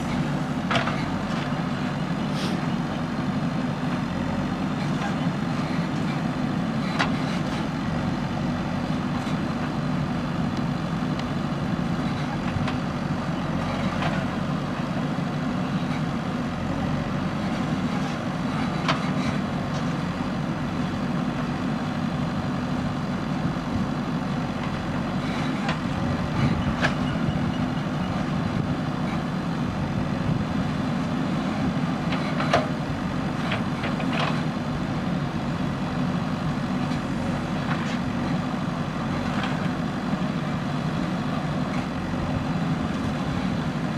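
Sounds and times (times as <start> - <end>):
backhoe diesel engine running: 0.0 - 43.9.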